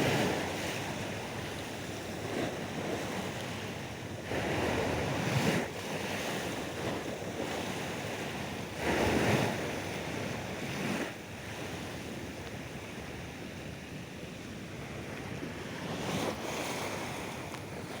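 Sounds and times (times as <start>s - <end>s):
waves breaking on a beach: 0.0s - 18.0s.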